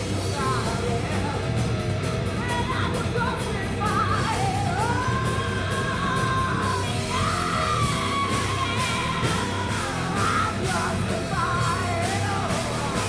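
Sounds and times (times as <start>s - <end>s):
drums and cymbal hits: 0.0s - 13.0s
electric guitars: 0.0s - 13.0s
woman singing: 0.0s - 13.0s.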